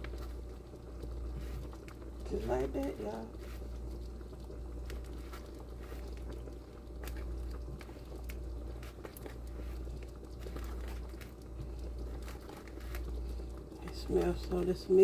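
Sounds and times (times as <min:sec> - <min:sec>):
broth bubbling and popping: 0:00.0 - 0:15.0
steady low hum: 0:00.0 - 0:15.0.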